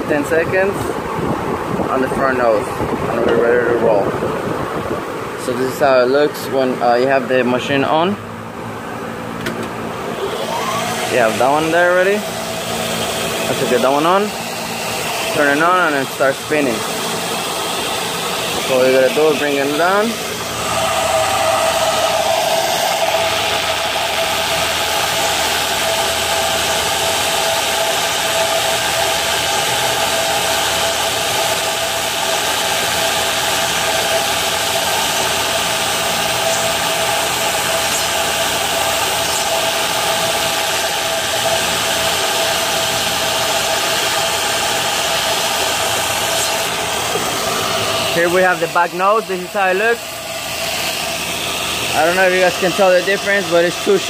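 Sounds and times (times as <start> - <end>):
polishing machine whirring: 10.0 - 54.0.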